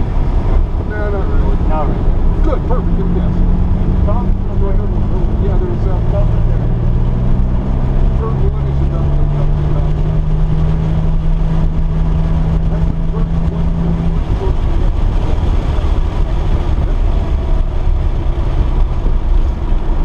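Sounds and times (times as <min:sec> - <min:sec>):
car engine running: 0:00.0 - 0:20.0
road and wind rumble: 0:00.0 - 0:20.0.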